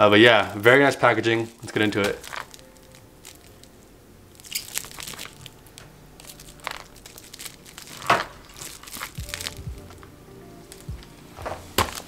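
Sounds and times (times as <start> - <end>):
plastic and bubble wrap crinkling: 0.0 - 12.0.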